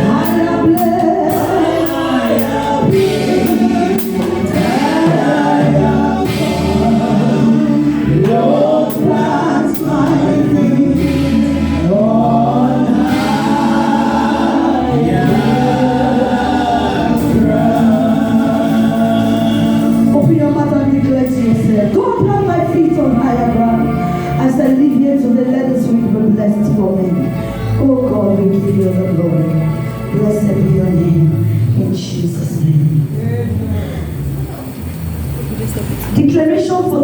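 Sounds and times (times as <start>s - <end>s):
choir singing a hymn: 0.0s - 31.8s
instrumental accompaniment: 0.0s - 37.0s.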